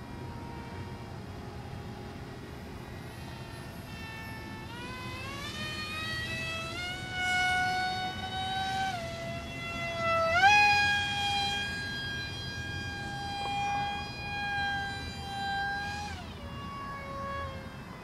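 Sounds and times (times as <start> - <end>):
model airplane motor whining: 0.0 - 18.0.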